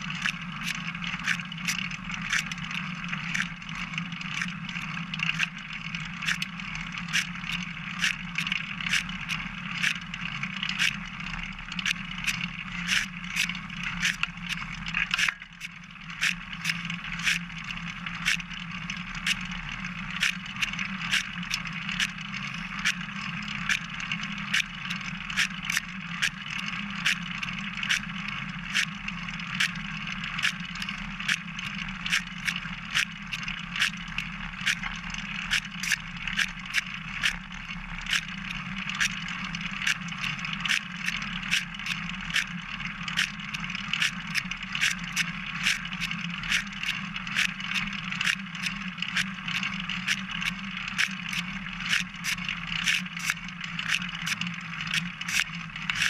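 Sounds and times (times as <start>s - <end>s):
bicycle tyre and frame noise: 0.0s - 56.0s
regular sharp clicks: 0.0s - 56.0s.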